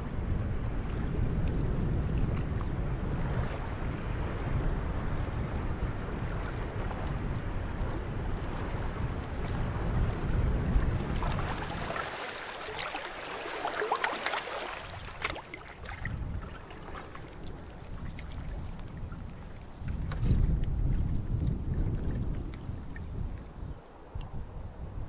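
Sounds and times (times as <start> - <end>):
wind rumbling on microphone: 0.0 - 25.0
water splashing against canoe hull: 0.9 - 23.3.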